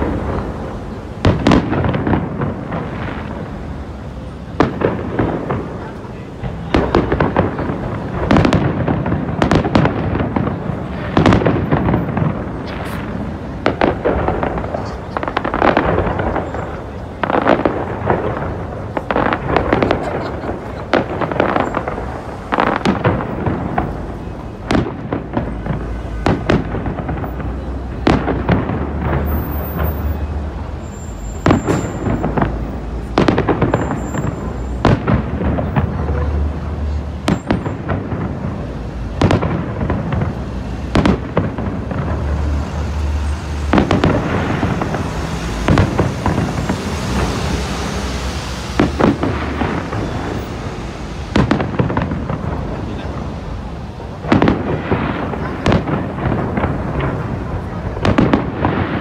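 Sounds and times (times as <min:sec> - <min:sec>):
fireworks crackling: 0:00.0 - 0:59.0
fireworks shells bursting: 0:04.6 - 0:53.3.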